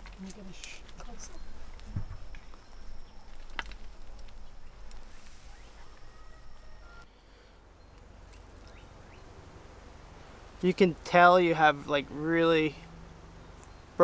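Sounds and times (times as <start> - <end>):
compost rustling: 0.0 - 14.0.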